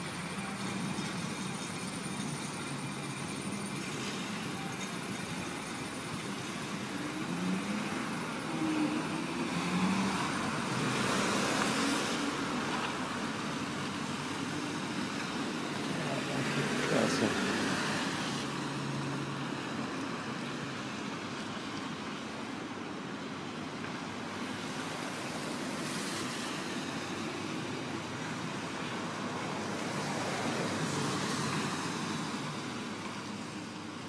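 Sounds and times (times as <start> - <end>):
cars passing: 0.0 - 34.0
tyres hissing on wet road: 0.0 - 34.0.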